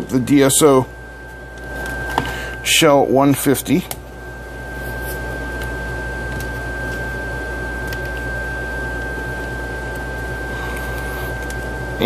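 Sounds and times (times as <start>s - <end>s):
low hum: 0.0s - 12.0s
steady sine-wave tone: 0.0s - 12.0s.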